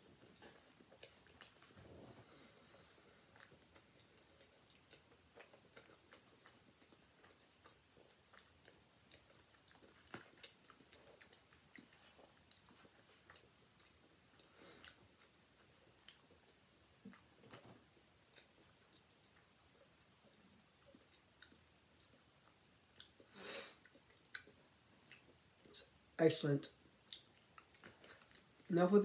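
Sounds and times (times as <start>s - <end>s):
person chewing: 0.1s - 26.1s, 26.8s - 28.7s.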